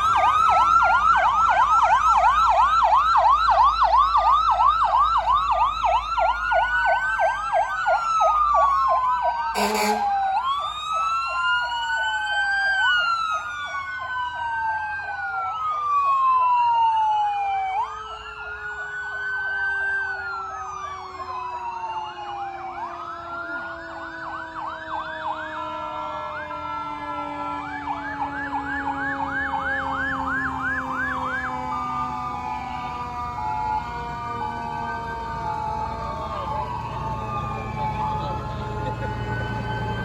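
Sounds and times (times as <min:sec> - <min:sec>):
fire truck sirens wailing: 0:00.0 - 0:40.0
low siren tone sliding down: 0:00.0 - 0:40.0
siren yelp: 0:00.0 - 0:40.0.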